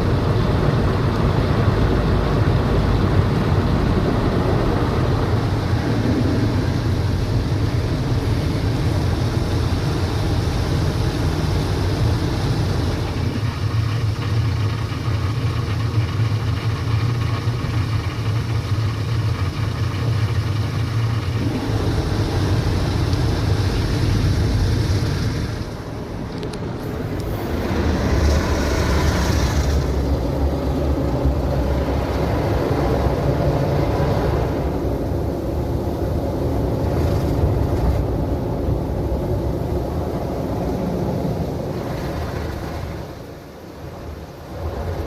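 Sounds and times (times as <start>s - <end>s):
car wash rumble and spray: 0.0s - 45.0s.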